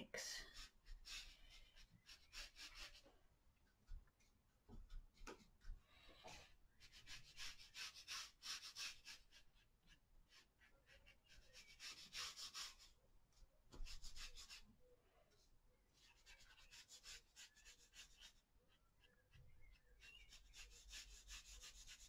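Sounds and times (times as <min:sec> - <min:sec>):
paintbrush scratching on paper: 0:00.3 - 0:03.1, 0:04.8 - 0:13.0, 0:13.7 - 0:14.8, 0:16.0 - 0:22.0.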